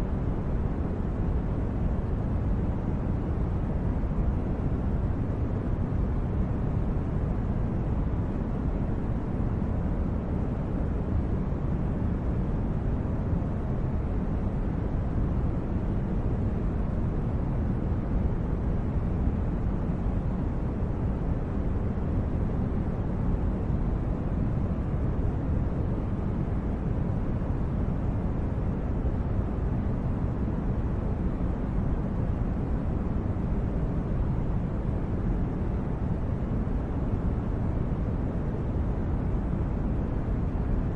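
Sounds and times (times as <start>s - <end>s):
steady low rumbling noise: 0.0s - 40.9s.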